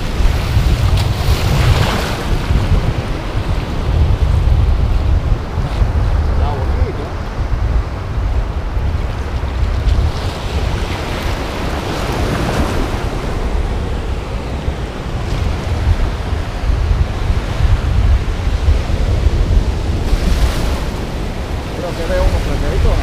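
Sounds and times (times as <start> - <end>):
ocean surf washing: 0.0 - 23.0
wind rumbling on microphone: 0.0 - 23.0.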